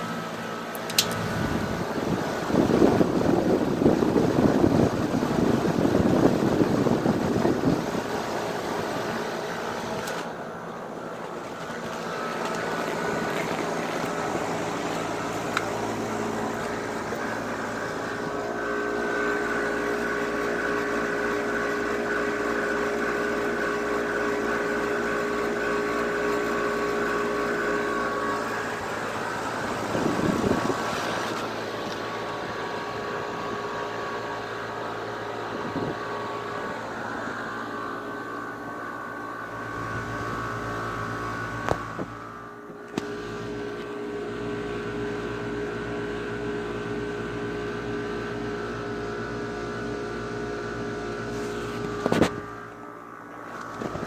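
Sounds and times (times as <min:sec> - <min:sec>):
condenser fan air rush: 0:00.0 - 0:54.0
steady hum: 0:00.0 - 0:54.0.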